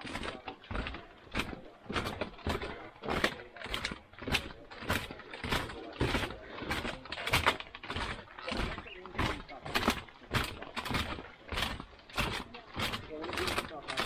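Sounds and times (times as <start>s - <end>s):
footsteps on bamboo bridge: 0.0s - 14.0s.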